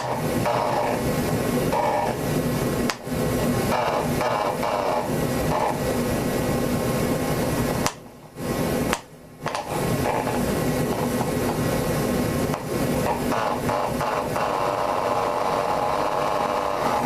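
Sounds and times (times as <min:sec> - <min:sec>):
electric starter whirring: 0:00.0 - 0:17.0.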